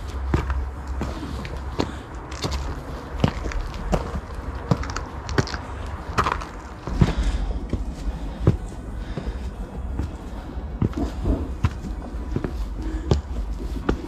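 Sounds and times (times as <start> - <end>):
footsteps on trail: 0.0 - 14.0
low rumble: 0.0 - 14.0.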